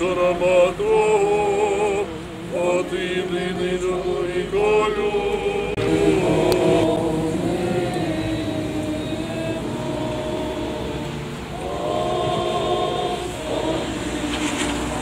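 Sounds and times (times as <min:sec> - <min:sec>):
group of voices chanting: 0:00.0 - 0:15.0.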